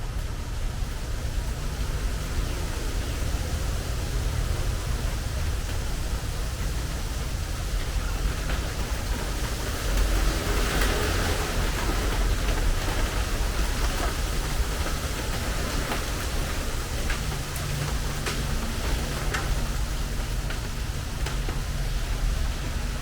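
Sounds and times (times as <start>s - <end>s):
rain drumming on a metal roof: 0.0s - 23.0s
raindrop ticks: 0.1s - 23.0s.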